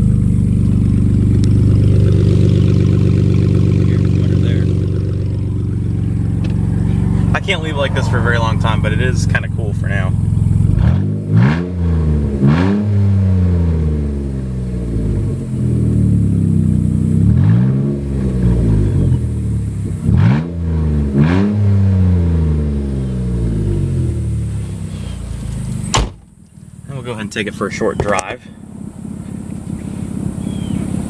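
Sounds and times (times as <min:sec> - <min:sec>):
loud car engine revving: 0:00.0 - 0:26.0, 0:28.0 - 0:31.0.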